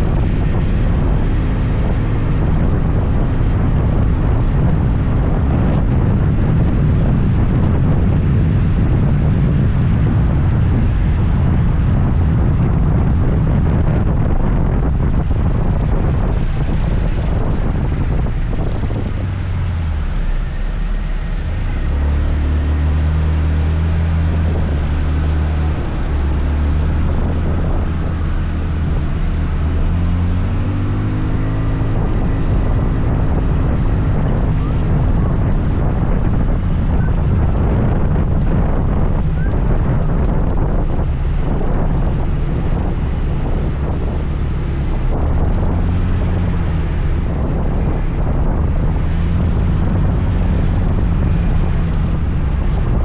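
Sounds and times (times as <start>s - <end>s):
scooter engine hum: 0.0s - 53.0s
wind buffeting microphone: 0.0s - 53.0s.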